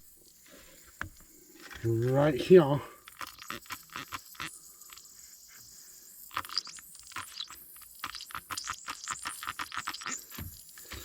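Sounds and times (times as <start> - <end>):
foam crackling and popping: 0.4 - 5.1, 6.2 - 11.0.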